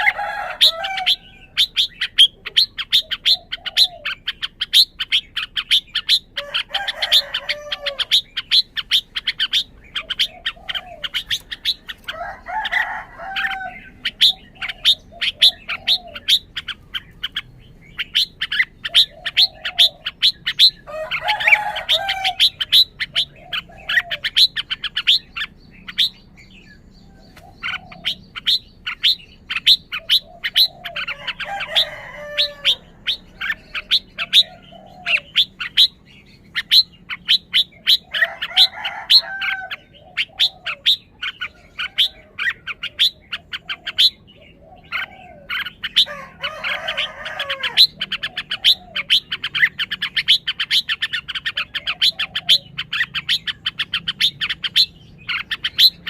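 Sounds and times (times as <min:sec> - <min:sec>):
bird warbling song: 0:00.0 - 0:56.0.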